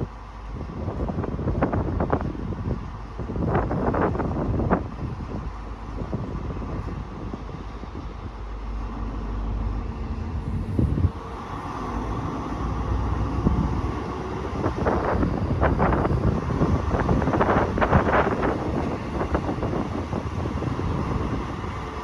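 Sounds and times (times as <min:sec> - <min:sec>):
diesel train rumbling past: 0:00.0 - 0:22.0
wind buffeting microphone: 0:00.0 - 0:22.0.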